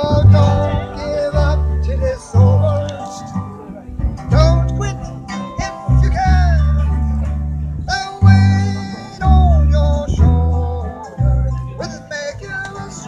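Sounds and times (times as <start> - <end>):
person singing: 0.0 - 7.2, 7.8 - 13.0
deep bass line: 0.0 - 13.0
strummed guitar: 0.0 - 13.0.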